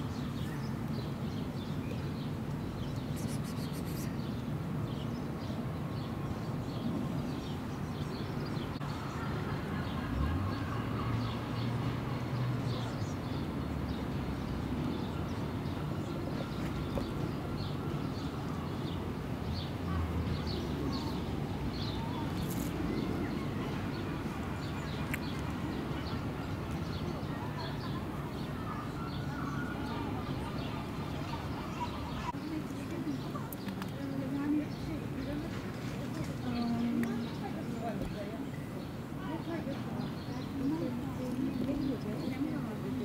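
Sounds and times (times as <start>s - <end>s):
distant traffic hum: 0.0s - 43.0s
small birds chirping: 0.0s - 43.0s.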